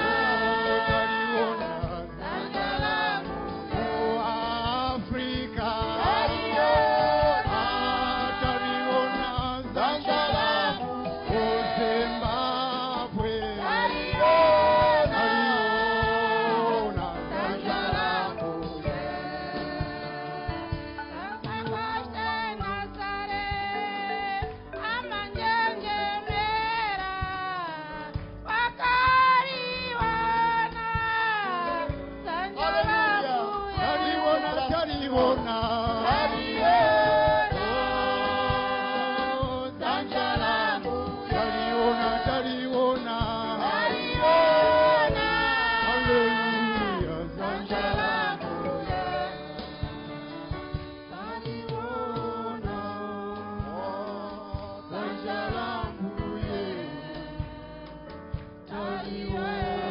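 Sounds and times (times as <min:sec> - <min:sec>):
men singing worship song: 0:00.0 - 0:23.3, 0:28.8 - 0:59.9.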